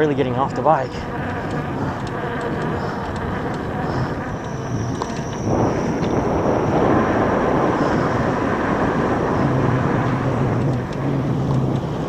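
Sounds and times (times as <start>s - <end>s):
faint high whine: 0.0s - 11.9s
steady low hum: 0.0s - 12.0s
wind rushing over microphone: 0.0s - 12.0s.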